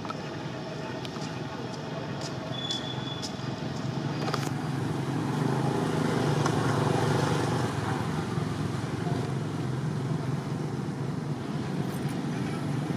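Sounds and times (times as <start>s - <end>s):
traffic rumble: 0.0s - 12.9s.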